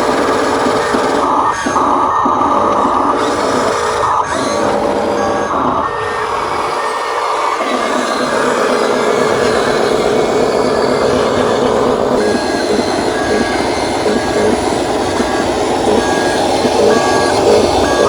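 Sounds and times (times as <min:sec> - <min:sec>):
motors and gears whirring: 0:00.0 - 0:18.0
reversing beeper: 0:00.0 - 0:18.0.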